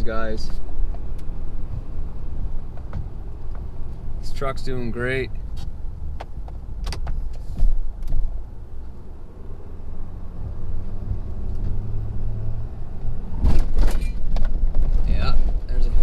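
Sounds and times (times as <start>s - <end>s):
diesel truck engine rumbling: 0.0s - 16.0s.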